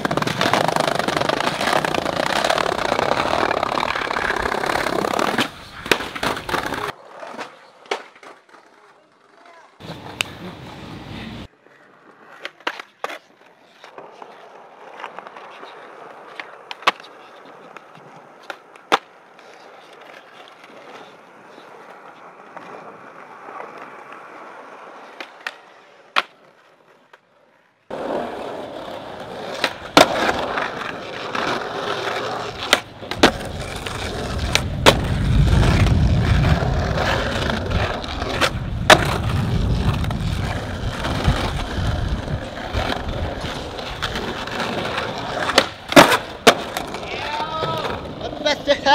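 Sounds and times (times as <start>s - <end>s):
skateboard clacking: 0.0s - 27.3s, 27.9s - 48.9s
skateboard wheels rolling on concrete: 0.0s - 48.9s.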